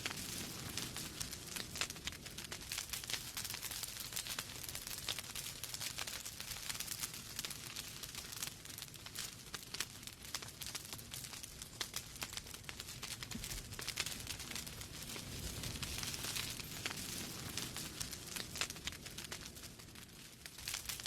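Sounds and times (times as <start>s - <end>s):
low rumble of burning: 0.0s - 21.0s
wood fire crackling: 0.0s - 21.0s.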